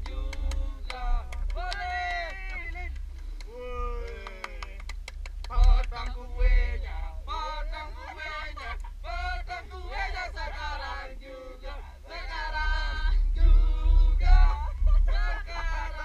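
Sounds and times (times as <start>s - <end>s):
group singing a birthday song: 0.0s - 2.9s, 5.5s - 16.0s
wind buffeting the microphone: 0.0s - 16.0s.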